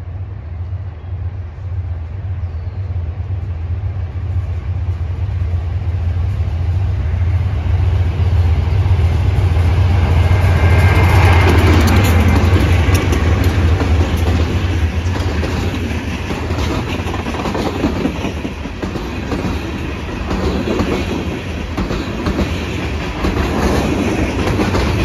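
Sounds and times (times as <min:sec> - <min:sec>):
diesel locomotive engine drone: 0:00.0 - 0:25.0
train wheels on rails: 0:00.0 - 0:25.0.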